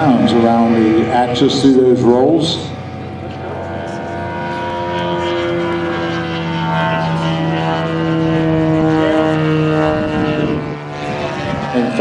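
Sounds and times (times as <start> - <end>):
model plane engine and propeller: 0.0 - 12.0.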